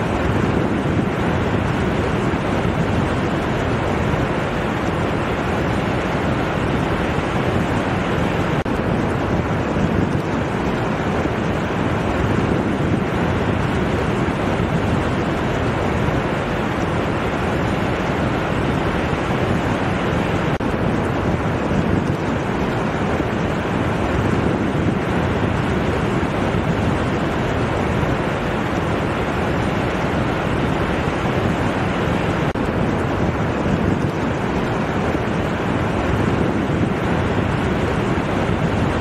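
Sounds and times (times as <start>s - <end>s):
ocean surf on sandy beach: 0.0s - 39.0s.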